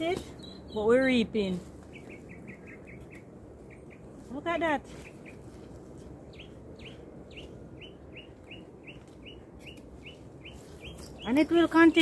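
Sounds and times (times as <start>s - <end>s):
bird chirping: 0.0s - 1.0s, 1.8s - 4.2s, 4.9s - 12.0s.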